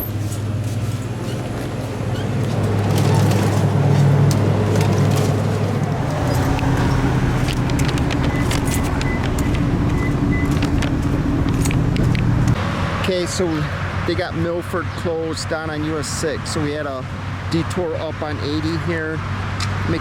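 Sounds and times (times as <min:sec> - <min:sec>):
car engine and road drone: 0:00.0 - 0:20.0.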